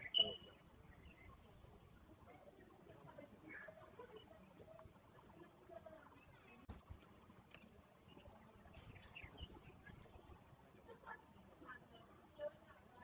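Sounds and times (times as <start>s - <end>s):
high-pitched insect-like whine: 0.0s - 13.0s.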